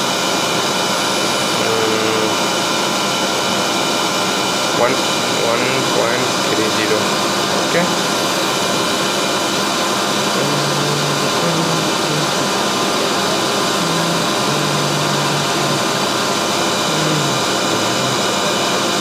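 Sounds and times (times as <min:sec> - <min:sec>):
cooling fans whirring: 0:00.0 - 0:19.0
low motor hum: 0:00.0 - 0:19.0.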